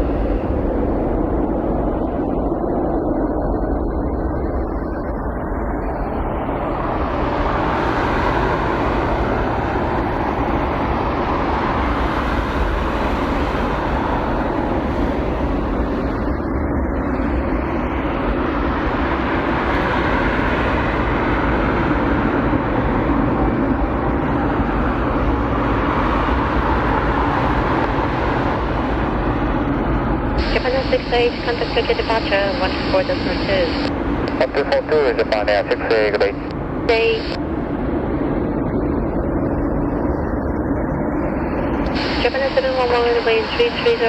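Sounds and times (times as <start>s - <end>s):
jet engines at takeoff: 0.0s - 44.0s.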